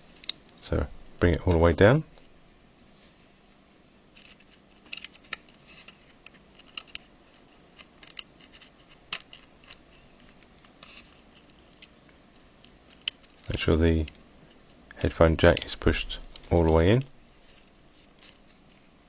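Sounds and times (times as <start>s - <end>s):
small clicks and scrapes: 0.0s - 0.6s, 4.1s - 19.0s.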